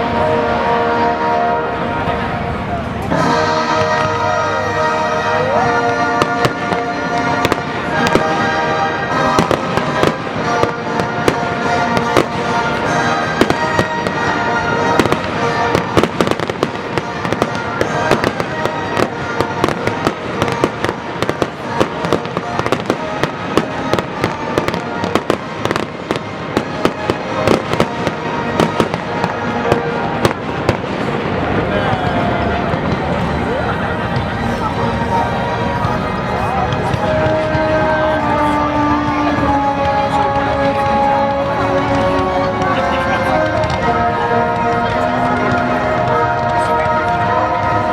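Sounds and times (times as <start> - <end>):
fireworks bangs and crackles: 0.0 - 47.9
music playing: 0.0 - 47.9.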